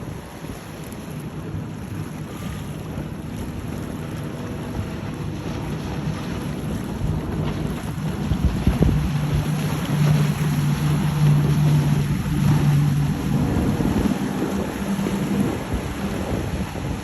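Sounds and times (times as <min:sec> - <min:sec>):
motorboat engine humming: 0:00.0 - 0:17.0
wind buffeting microphone: 0:00.0 - 0:17.0.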